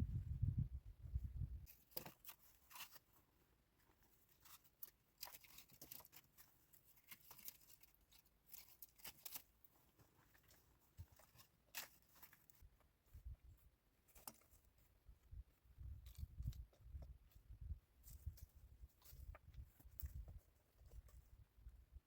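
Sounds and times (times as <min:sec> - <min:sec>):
faint crunching and crackling: 0:01.4 - 0:22.0.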